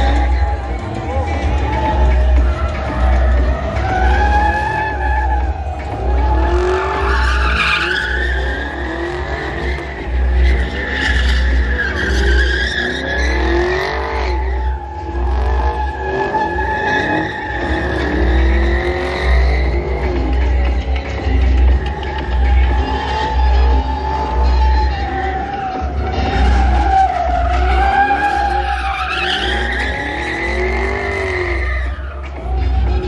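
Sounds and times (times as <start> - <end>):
car engine revving: 0.0 - 33.0
tires squealing: 0.0 - 33.0.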